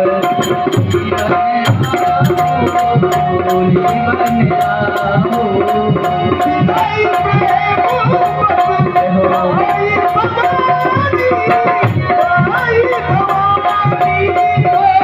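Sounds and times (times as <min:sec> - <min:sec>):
melodic instrumental line: 0:00.0 - 0:15.0
tabla rhythm: 0:00.0 - 0:15.0.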